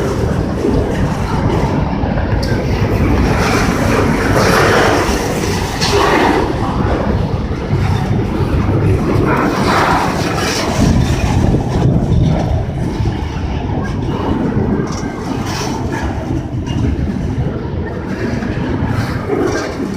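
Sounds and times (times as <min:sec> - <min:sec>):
train wheels clacking over rails: 0:00.0 - 0:19.9.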